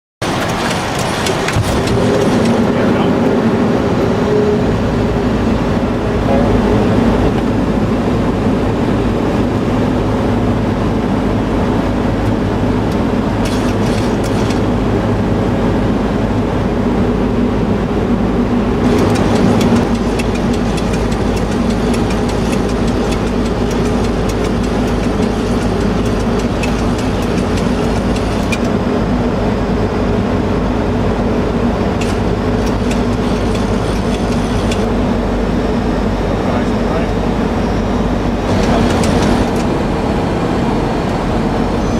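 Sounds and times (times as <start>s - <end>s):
aircraft engine noise: 0.2s - 41.9s
rushing airflow: 0.2s - 41.9s.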